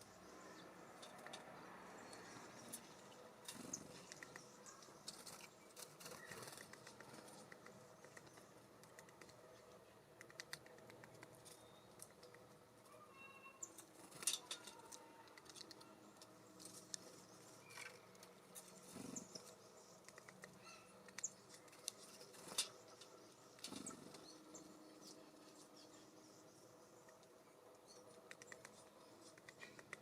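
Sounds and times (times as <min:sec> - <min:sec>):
birds tapping and scratching: 0:00.8 - 0:25.9, 0:28.0 - 0:30.0.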